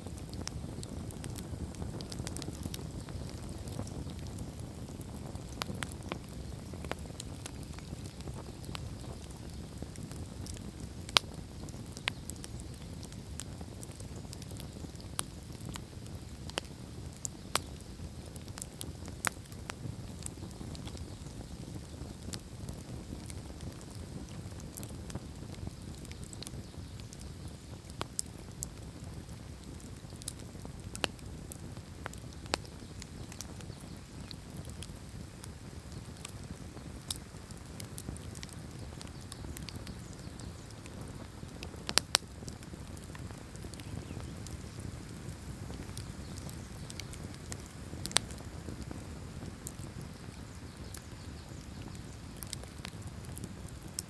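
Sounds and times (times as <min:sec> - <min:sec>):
campfire crackling and popping: 0:00.0 - 0:54.0
low rush of flame: 0:00.0 - 0:54.0.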